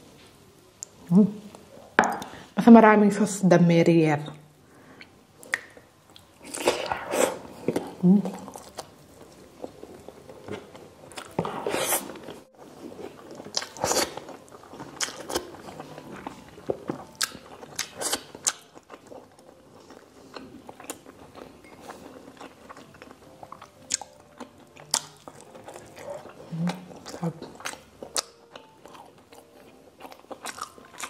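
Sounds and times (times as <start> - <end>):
person chewing food: 5.0 - 31.0.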